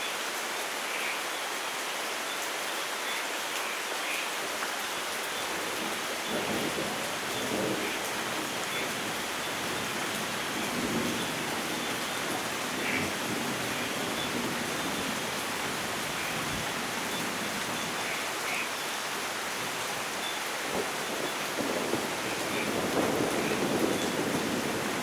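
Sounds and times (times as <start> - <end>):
rain pattering on surfaces: 0.0 - 25.0.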